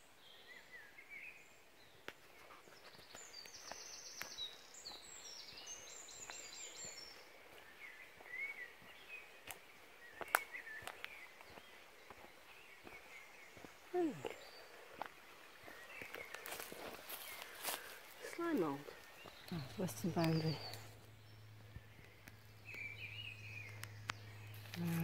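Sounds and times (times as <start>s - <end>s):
birds chirping: 0.0s - 25.0s
bird trilling song: 2.8s - 25.0s.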